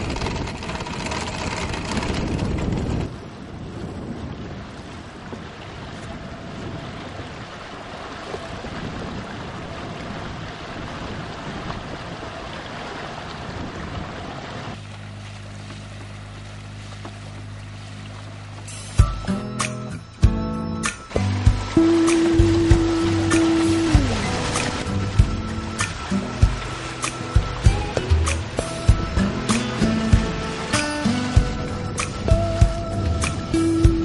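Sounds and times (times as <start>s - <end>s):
waves: 0.0s - 34.0s.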